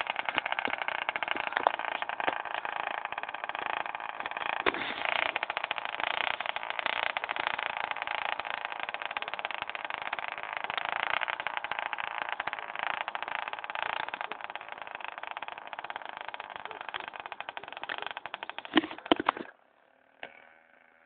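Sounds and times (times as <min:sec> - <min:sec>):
rapid fine crackle: 0:00.0 - 0:19.5.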